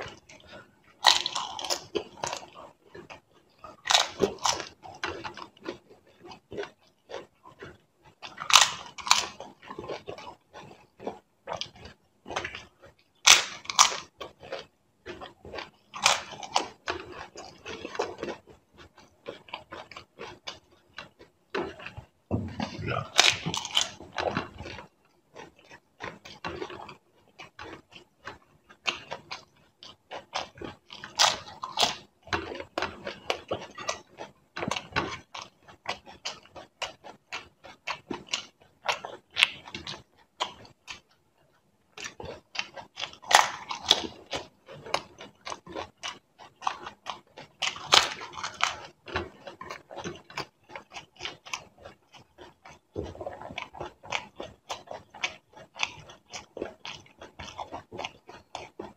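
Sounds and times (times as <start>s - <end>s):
person chewing crisp shells: 0.0s - 58.9s.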